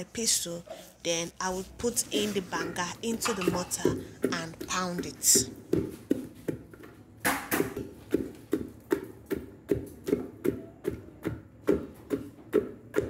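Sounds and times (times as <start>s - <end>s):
pestle pounding in mortar: 1.3s - 13.0s.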